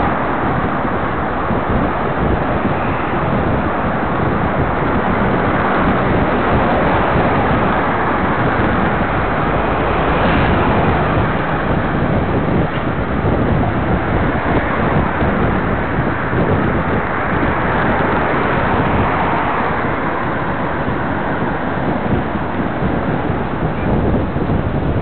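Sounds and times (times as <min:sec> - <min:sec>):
road traffic: 0:00.0 - 0:25.0
wind rushing over microphone: 0:00.0 - 0:25.0.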